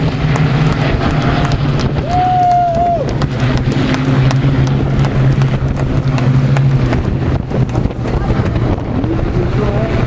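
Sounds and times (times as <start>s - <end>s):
propeller planes droning in flight: 0.0s - 10.0s
wind buffeting microphone: 0.0s - 10.0s.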